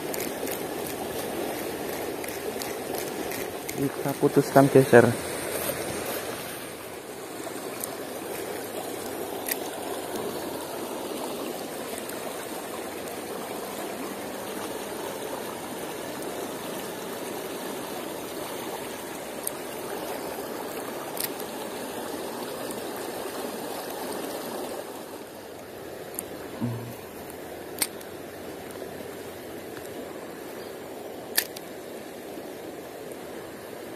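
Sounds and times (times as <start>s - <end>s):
river flowing over rocks: 0.0s - 33.9s.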